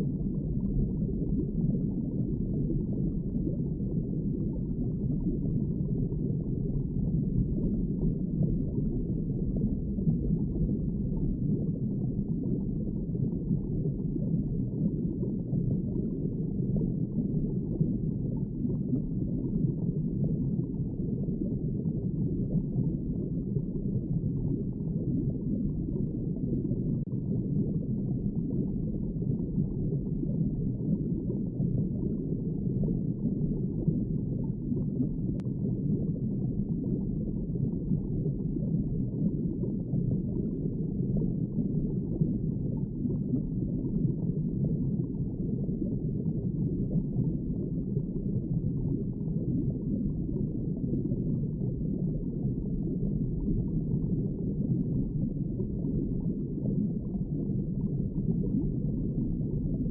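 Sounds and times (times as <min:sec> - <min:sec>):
underwater low wash of water: 0:00.0 - 0:59.9.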